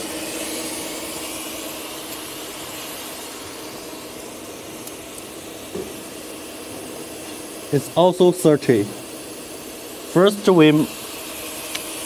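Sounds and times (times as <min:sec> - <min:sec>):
faint machinery hum: 0:00.0 - 0:12.0
steady hiss: 0:00.0 - 0:12.0.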